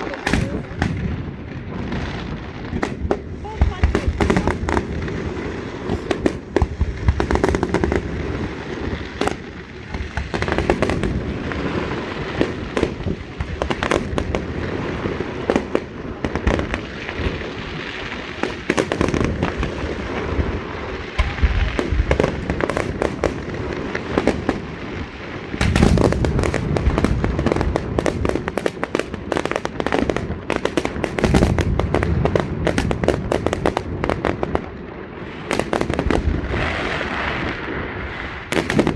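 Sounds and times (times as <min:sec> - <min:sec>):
fireworks bangs and booms: 0:00.0 - 0:38.9
fireworks crackling barrage: 0:00.0 - 0:38.9.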